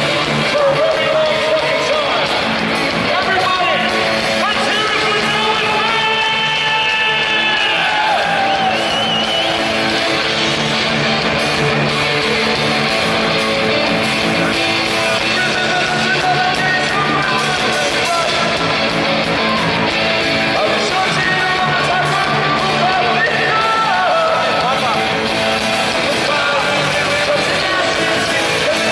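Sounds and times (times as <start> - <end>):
bass guitar: 0.0 - 28.9
drums: 0.0 - 28.9
electric guitars: 0.0 - 28.9.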